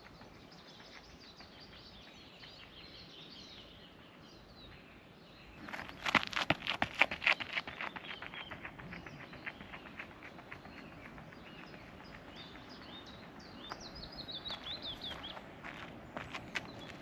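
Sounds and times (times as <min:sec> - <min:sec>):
running footsteps on gravel: 0:00.0 - 0:02.7, 0:05.6 - 0:17.0
songbird chirping: 0:00.0 - 0:06.3, 0:07.2 - 0:17.0.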